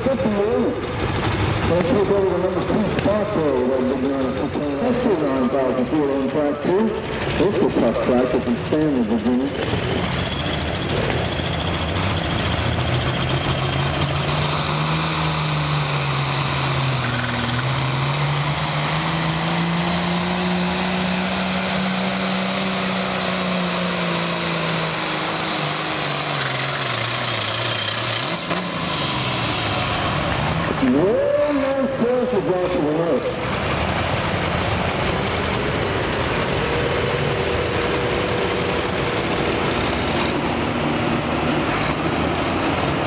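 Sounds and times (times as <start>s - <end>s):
high turbo whine: 0.0s - 43.0s
tractor diesel engine under load: 0.0s - 43.0s.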